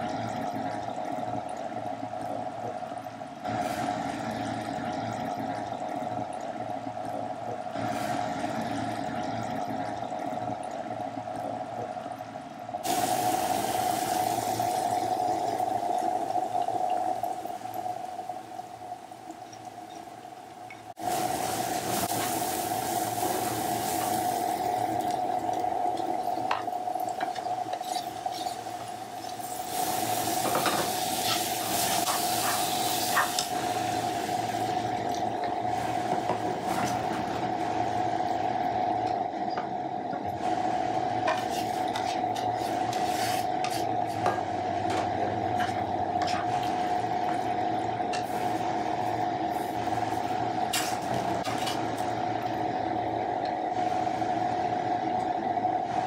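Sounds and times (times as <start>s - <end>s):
steady hum: 0.0s - 56.0s.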